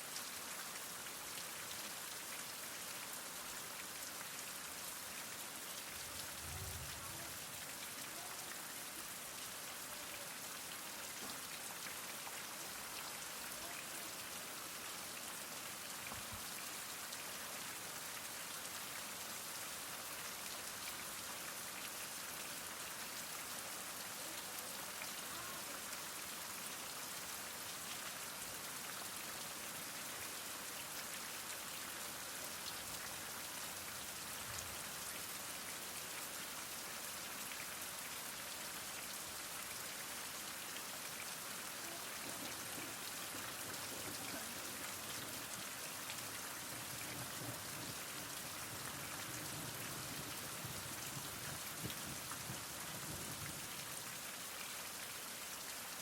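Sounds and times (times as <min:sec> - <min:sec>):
heavy rain falling: 0:00.0 - 0:36.2, 0:37.4 - 0:55.1.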